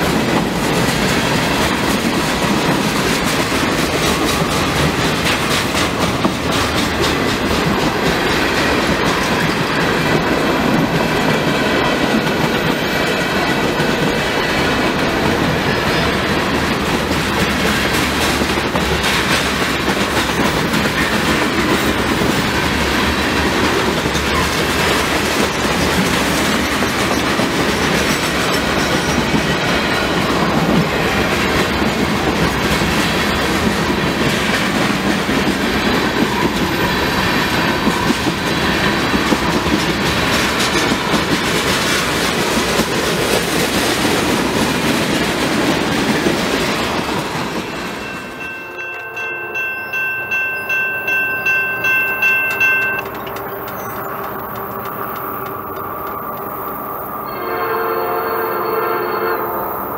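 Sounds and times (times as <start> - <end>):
wheels clicking over rail joints: 0.0 - 57.4
railroad cars rolling past: 0.0 - 59.9.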